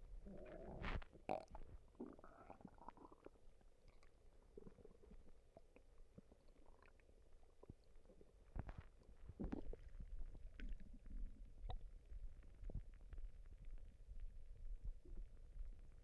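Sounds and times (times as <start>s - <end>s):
stomach gurgling and rumbling: 0.0s - 16.0s.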